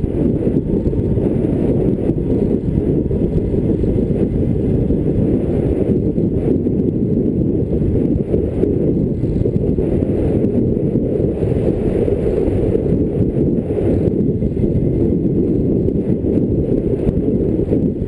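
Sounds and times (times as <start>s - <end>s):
road noise: 0.0s - 18.0s
wind buffeting: 0.0s - 18.0s.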